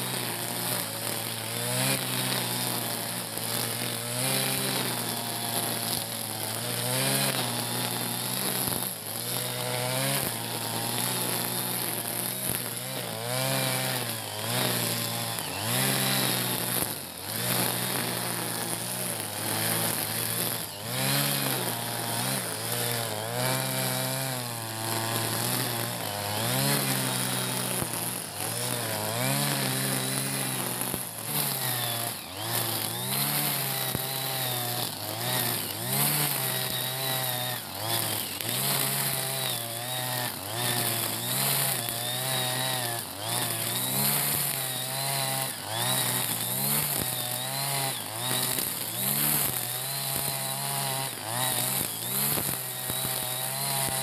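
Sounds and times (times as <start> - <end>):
brush cutter engine cutting grass: 0.0 - 54.0.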